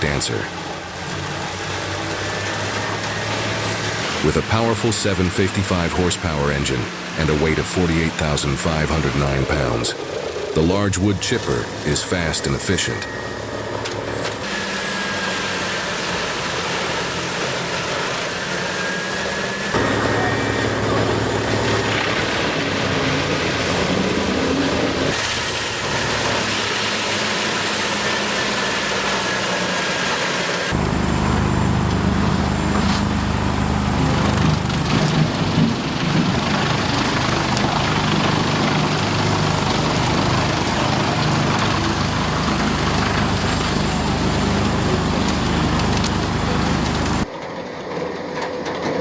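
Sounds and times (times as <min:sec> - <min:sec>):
heavy forestry machinery: 0:00.0 - 0:49.0.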